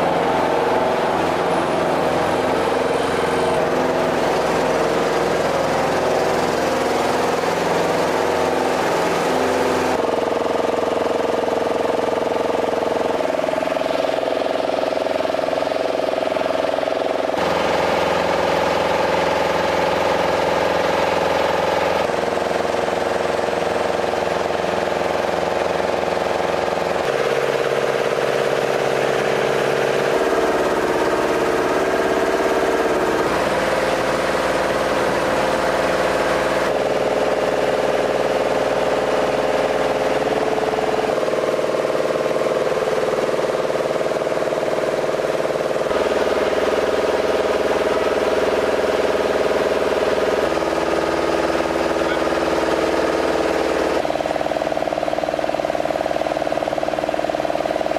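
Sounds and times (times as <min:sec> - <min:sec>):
vehicle engine humming: 0:00.0 - 0:57.9.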